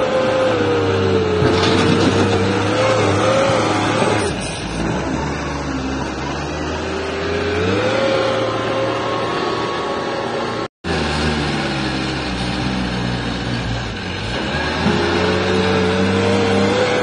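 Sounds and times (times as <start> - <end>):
diesel loader engine under load: 0.0 - 17.0.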